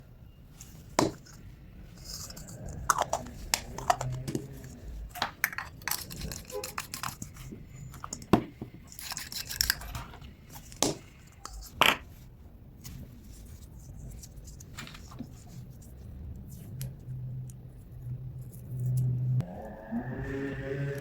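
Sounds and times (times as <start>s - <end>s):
rustling and scraping: 0.5s - 19.4s.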